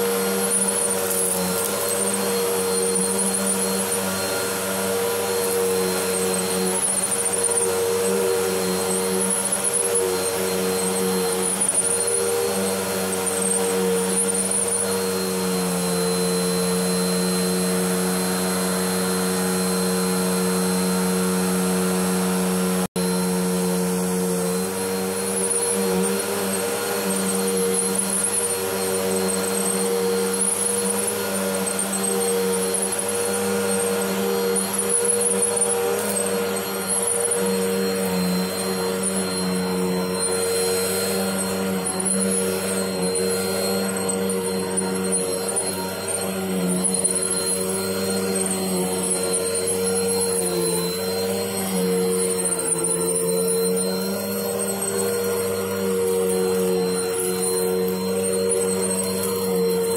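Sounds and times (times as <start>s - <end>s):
vacuum cleaner running on carpet: 0.0s - 59.9s.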